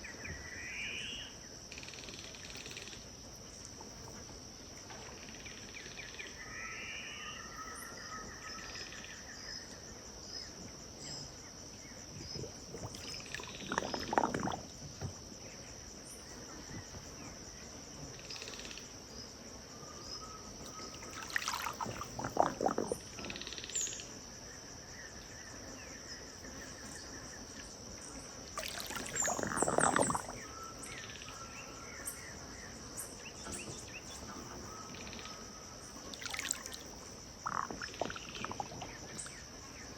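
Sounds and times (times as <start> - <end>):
high insect drone: 4.9 - 39.9.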